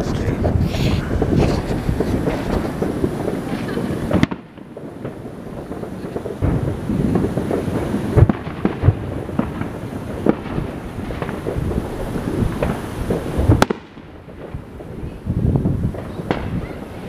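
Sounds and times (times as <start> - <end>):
distant fireworks rumbling booms: 0.0 - 17.0
sharp firework bangs: 0.0 - 17.0.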